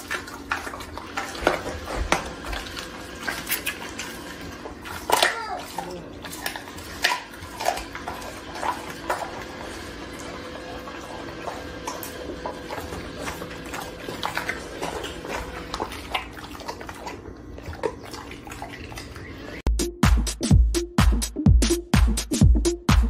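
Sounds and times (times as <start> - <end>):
dog licking and chewing meat: 0.0 - 19.6.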